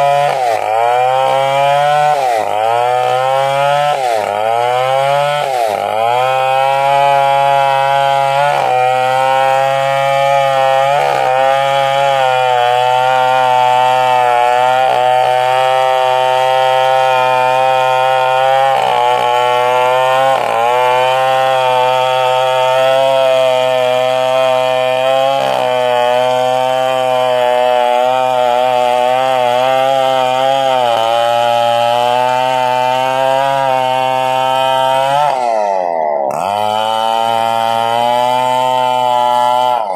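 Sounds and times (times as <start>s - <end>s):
chainsaw sawing through trunk: 0.0s - 39.9s.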